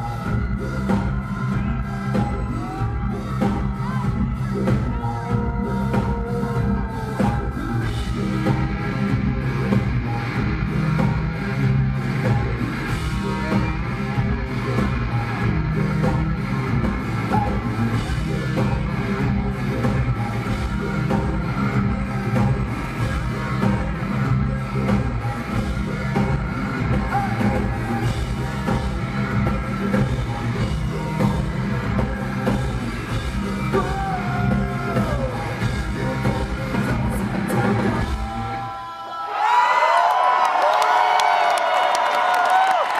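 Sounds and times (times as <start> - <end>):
rock band playing live: 0.0 - 38.7
crowd cheering and screaming: 0.0 - 42.9.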